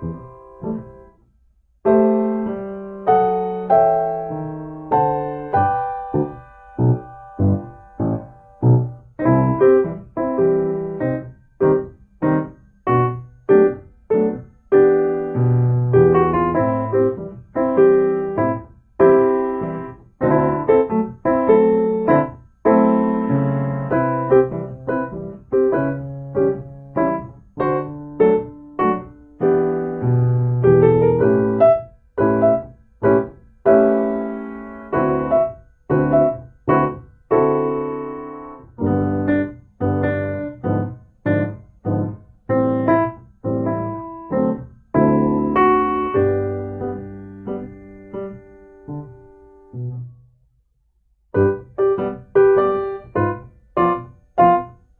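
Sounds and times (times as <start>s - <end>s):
piano chords: 0.0s - 1.2s, 1.8s - 50.2s, 51.3s - 54.9s.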